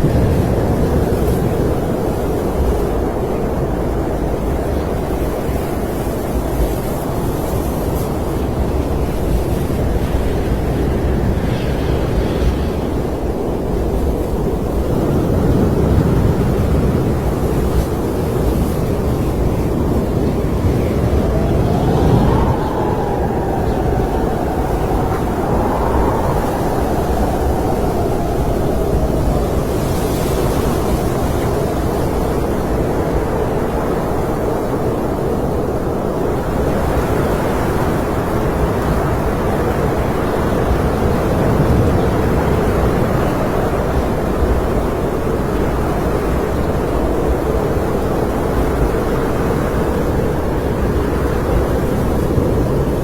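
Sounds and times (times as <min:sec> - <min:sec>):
snowstorm wind howling: 0:00.0 - 0:53.0.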